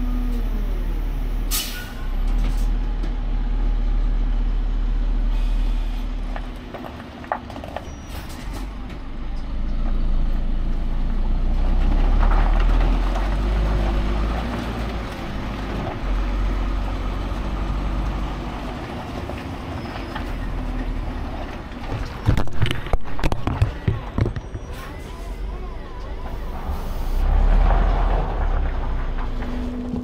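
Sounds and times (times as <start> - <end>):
diesel truck engine rumbling: 0.0 - 30.0.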